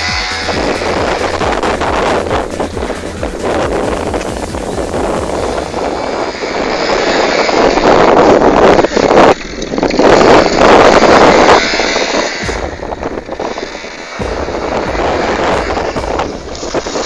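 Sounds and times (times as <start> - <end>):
scooter engine revving: 0.0 - 17.0
wheel spinning in gravel: 0.0 - 17.0.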